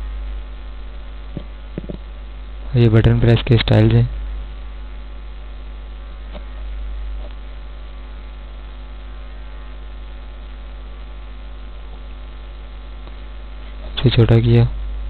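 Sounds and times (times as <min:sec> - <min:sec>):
electrical mains hum: 0:00.0 - 0:15.0
faint hiss: 0:00.0 - 0:15.0.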